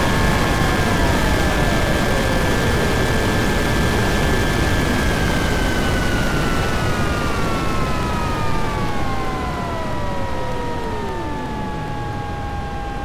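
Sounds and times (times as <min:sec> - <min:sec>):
jet engine whining: 0:00.0 - 0:13.0.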